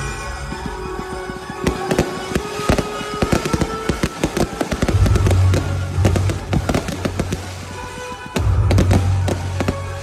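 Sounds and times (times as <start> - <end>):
fireworks bursting and crackling: 0.0 - 10.0.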